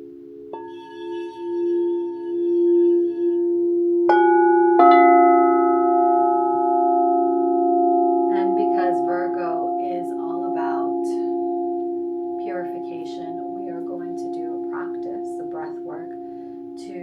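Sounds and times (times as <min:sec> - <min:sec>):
singing bowls ringing: 0:00.0 - 0:17.0
singing bowl strikes: 0:00.4 - 0:17.0.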